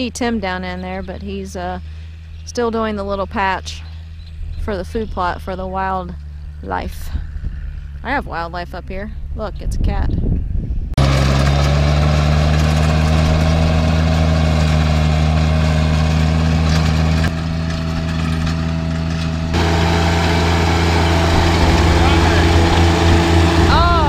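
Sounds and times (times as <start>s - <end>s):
tractor diesel engine under load: 0.0s - 10.1s, 10.9s - 24.0s.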